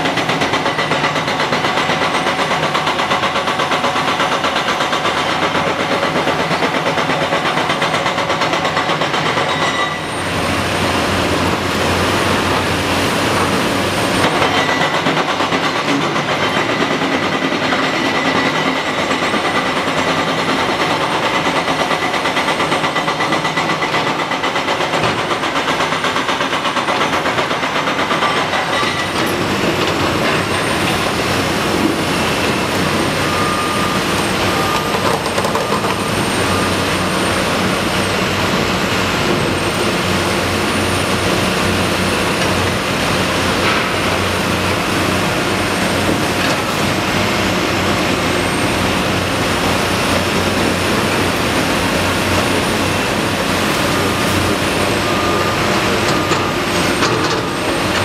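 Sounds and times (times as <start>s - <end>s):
excavator diesel engine clattering: 0.0s - 58.0s.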